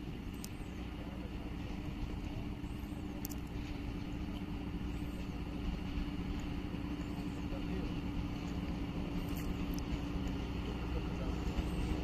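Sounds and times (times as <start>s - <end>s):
diesel locomotive droning: 0.0s - 12.0s.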